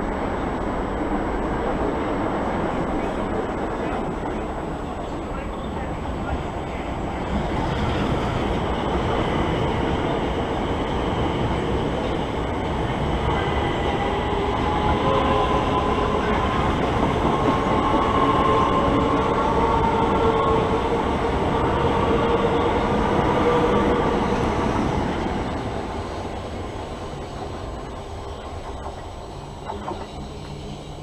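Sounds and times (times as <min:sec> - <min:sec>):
steady whining tones: 0:00.0 - 0:31.0
train wheels rumbling on rails: 0:00.0 - 0:31.0.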